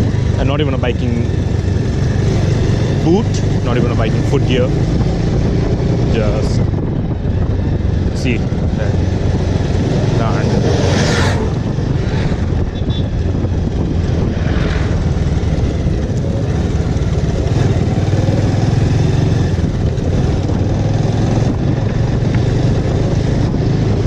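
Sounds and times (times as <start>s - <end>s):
motorcycle engine running: 0.0s - 24.0s
rushing road noise: 0.0s - 24.0s.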